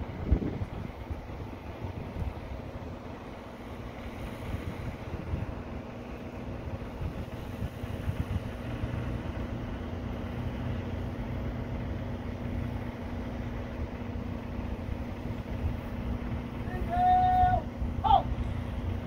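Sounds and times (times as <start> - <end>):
steady low hum: 0.0 - 19.0
wind rumbling on microphone: 0.0 - 19.0.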